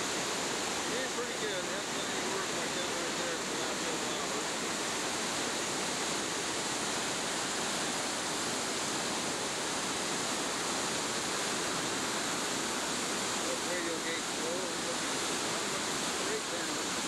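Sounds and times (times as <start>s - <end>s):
floodwater rushing over spillway: 0.0s - 17.0s.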